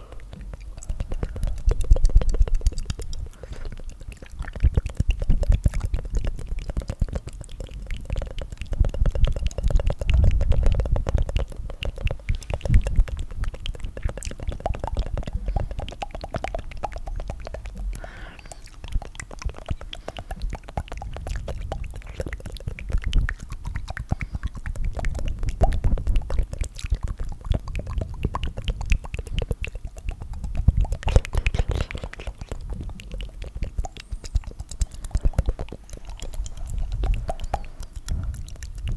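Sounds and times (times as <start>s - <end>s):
tongue fluttering and clicking: 0.0s - 38.9s.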